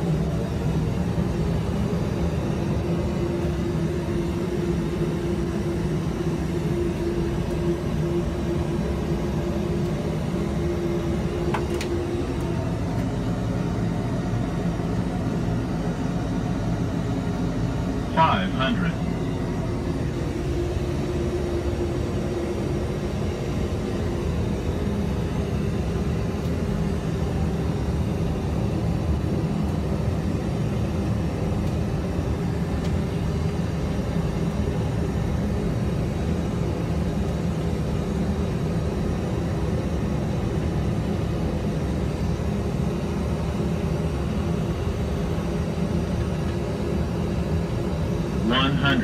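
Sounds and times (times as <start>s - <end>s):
simulated aircraft rumble: 0.0s - 49.0s.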